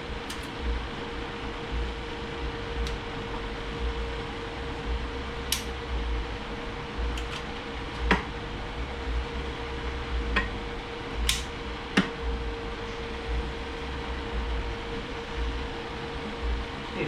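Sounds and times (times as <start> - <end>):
workshop hum with low rumble: 0.0 - 17.0.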